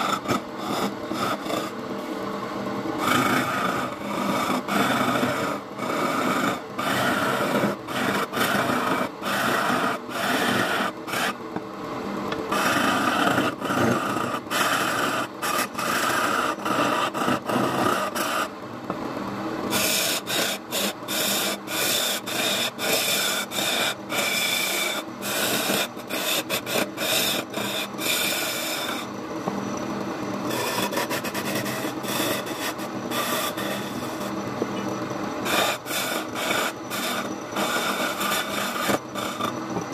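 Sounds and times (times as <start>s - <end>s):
chisel cutting wood on lathe: 0.0s - 2.0s, 3.0s - 11.4s, 12.4s - 18.5s, 19.7s - 29.2s, 30.4s - 39.9s.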